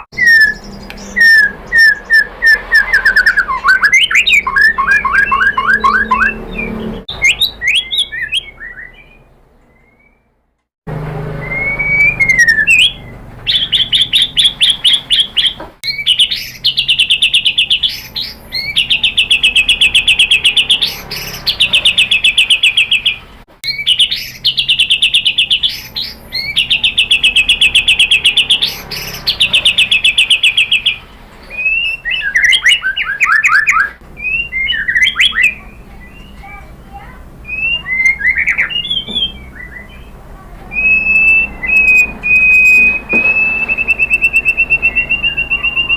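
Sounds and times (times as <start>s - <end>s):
bird singing trills and whistles: 0.0s - 10.3s, 11.4s - 45.9s.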